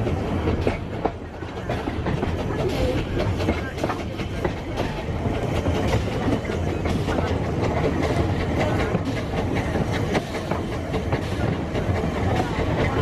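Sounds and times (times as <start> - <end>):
train rumbling: 0.0 - 13.0
wheels clicking and rattling on track: 0.0 - 13.0.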